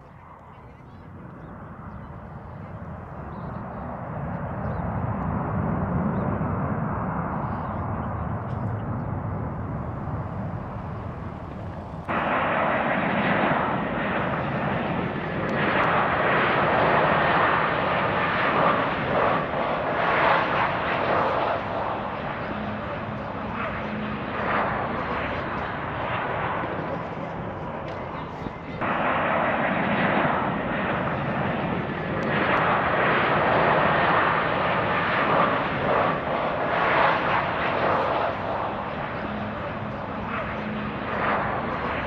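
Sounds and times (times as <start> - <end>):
jet engine rushing: 0.0 - 42.0.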